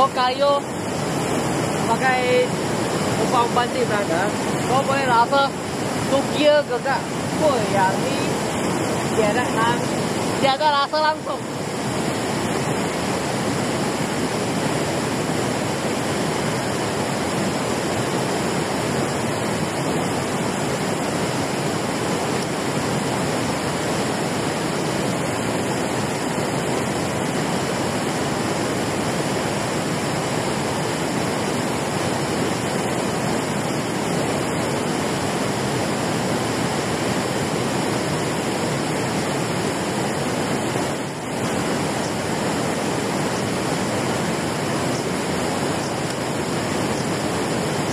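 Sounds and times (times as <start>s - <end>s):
water rushing over a weir: 0.0s - 47.9s.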